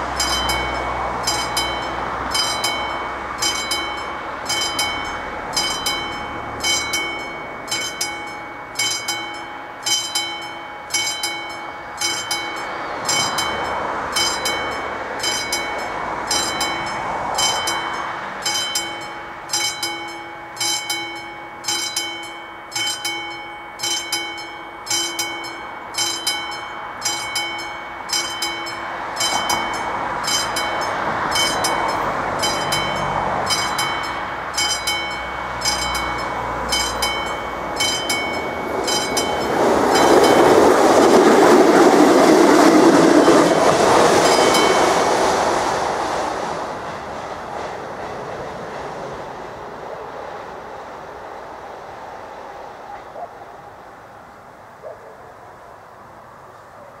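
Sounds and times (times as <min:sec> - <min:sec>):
level crossing bell ringing: 0:00.0 - 0:45.8.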